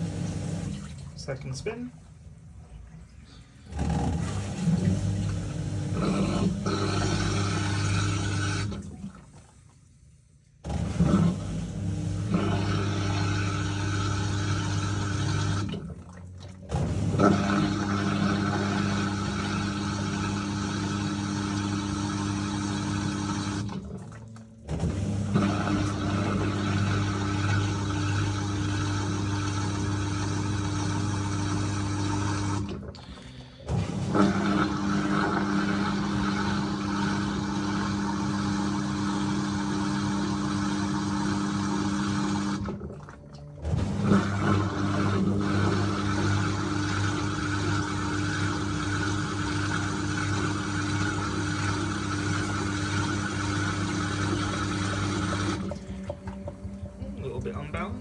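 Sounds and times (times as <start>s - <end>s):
washing machine spinning hum: 0.0s - 58.0s.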